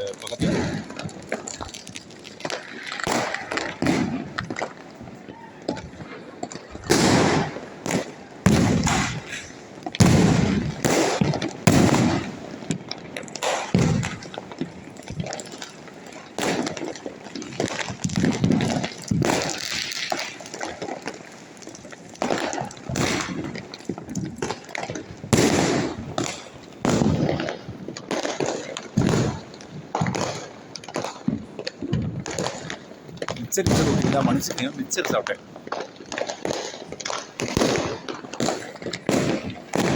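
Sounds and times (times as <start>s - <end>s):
firecrackers banging and popping: 0.0s - 39.9s.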